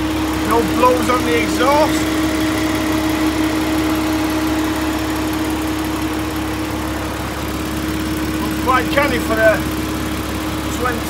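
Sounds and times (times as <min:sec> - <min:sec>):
car engine idling: 0:00.0 - 0:11.0
cooling fan running: 0:00.0 - 0:11.0.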